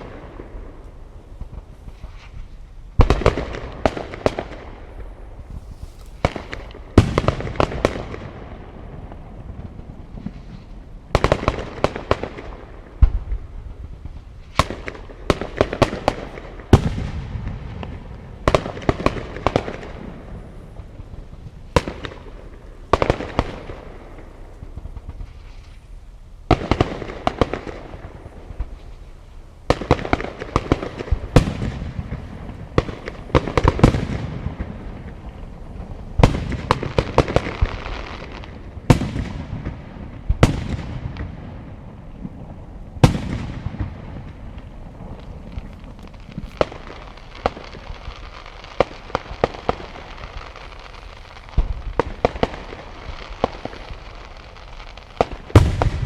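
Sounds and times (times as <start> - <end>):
fireworks bangs and bursts: 0.0 - 56.0
fireworks crackling: 0.0 - 56.0.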